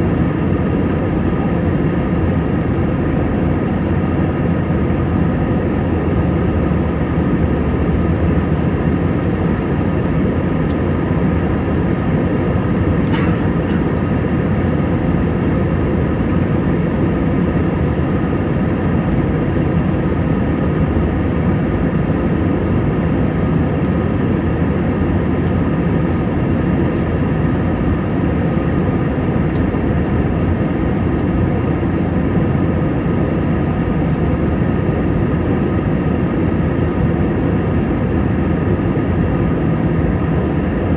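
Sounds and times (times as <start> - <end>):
jet engine and airflow drone: 0.0 - 40.9.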